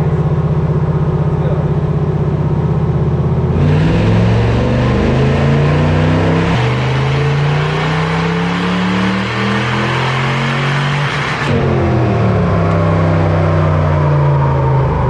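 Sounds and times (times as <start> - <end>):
supercharged truck engine revving: 0.0 - 15.0.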